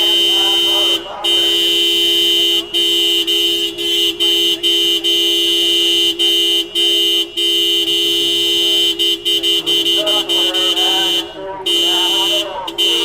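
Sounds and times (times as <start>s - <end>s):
car horn honking: 0.0s - 13.0s.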